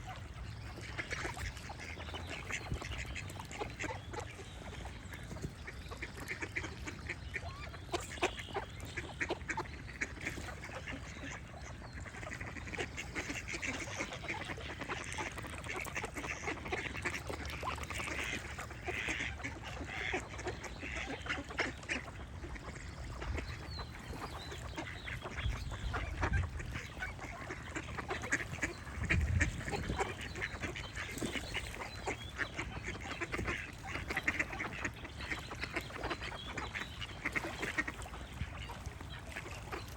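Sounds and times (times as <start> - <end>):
ducks quacking: 0.0 - 39.9
faint birdsong: 0.0 - 39.9.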